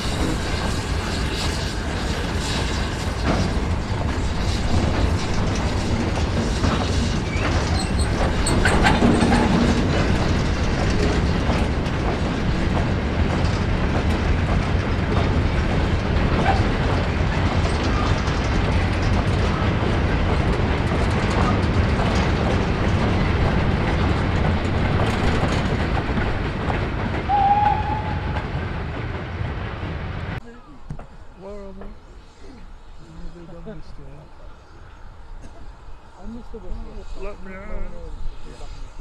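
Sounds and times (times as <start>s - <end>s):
train clanks and squeals: 0.0s - 39.0s
train wheels rumbling on rail: 0.0s - 39.0s.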